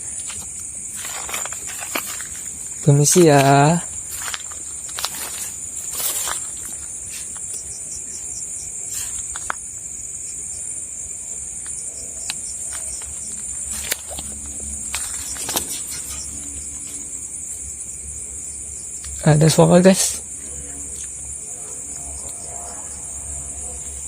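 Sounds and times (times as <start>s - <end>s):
night insects chorus: 0.0s - 24.0s.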